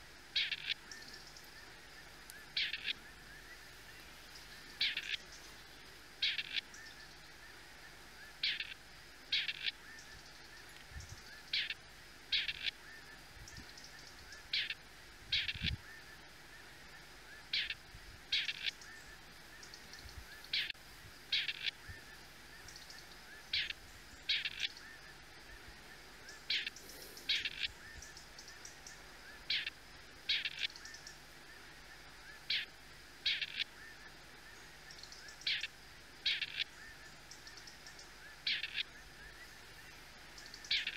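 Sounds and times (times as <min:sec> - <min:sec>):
partridges calling: 0:00.4 - 0:40.9.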